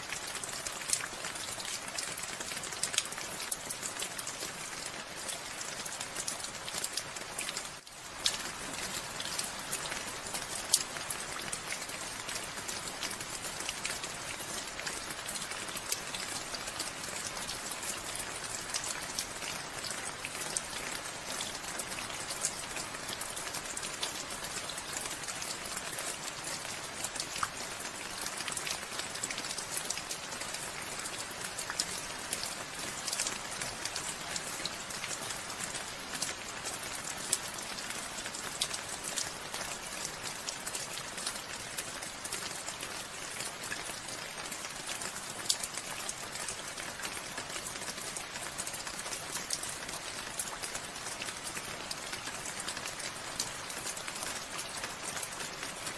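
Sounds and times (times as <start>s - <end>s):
hiss of rain: 0.0s - 55.9s
raindrops pattering on a surface: 0.0s - 55.9s.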